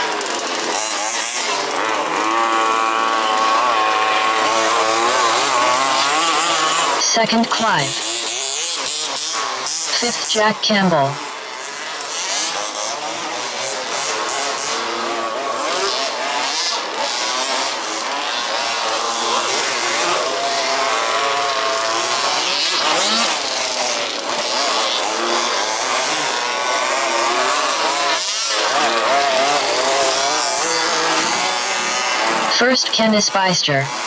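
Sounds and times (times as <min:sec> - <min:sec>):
small two-stroke engines revving: 0:00.0 - 0:33.1.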